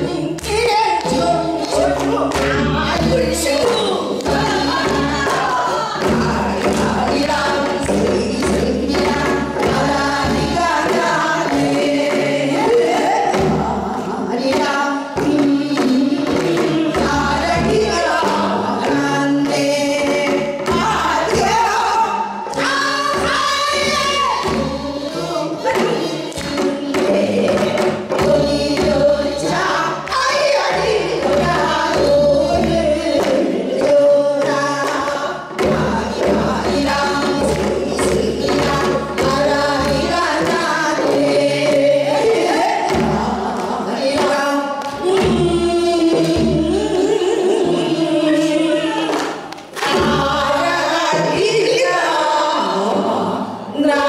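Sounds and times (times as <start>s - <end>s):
traditional instruments: 0.0s - 54.0s
women singing together: 0.0s - 54.0s.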